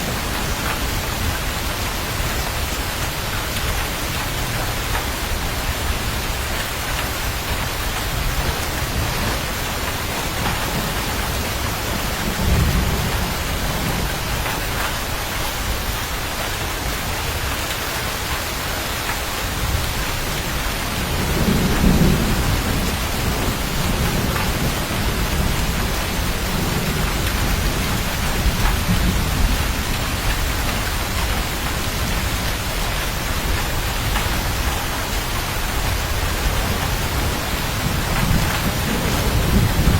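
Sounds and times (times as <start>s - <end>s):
thunder rumbling: 0.0s - 17.7s, 19.0s - 39.9s
heavy rain hiss: 0.0s - 39.9s.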